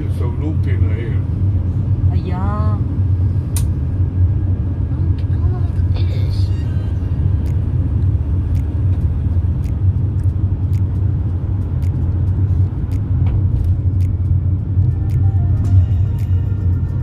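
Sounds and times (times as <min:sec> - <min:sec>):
car road rumble from inside: 0:00.0 - 0:17.0.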